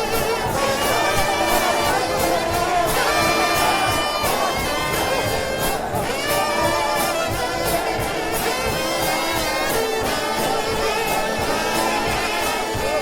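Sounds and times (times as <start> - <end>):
brass band playing fast tune: 0.0 - 13.0
drum kit beat: 0.0 - 13.0.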